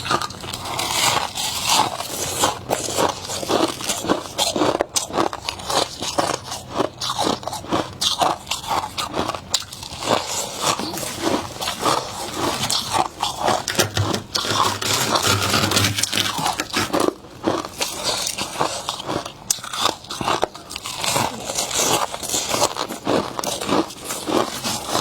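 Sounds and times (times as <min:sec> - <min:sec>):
chewing crunchy frost: 0:00.0 - 0:25.0.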